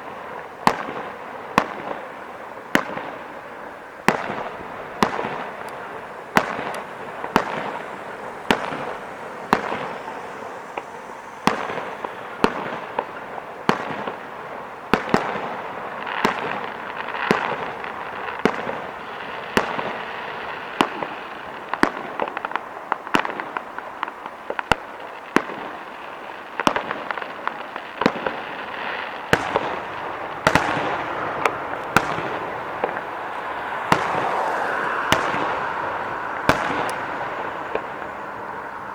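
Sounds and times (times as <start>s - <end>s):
continuous noisy wash: 0.0s - 25.2s, 27.3s - 38.9s
fireworks bangs: 0.0s - 38.9s.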